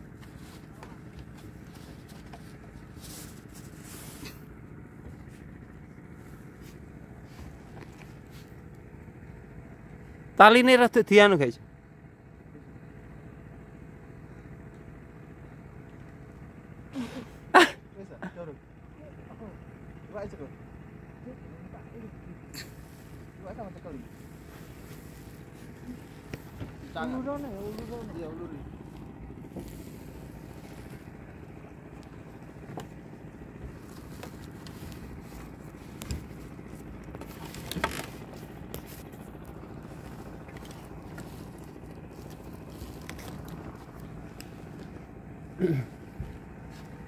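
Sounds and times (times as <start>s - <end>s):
small engine humming: 0.0s - 47.0s.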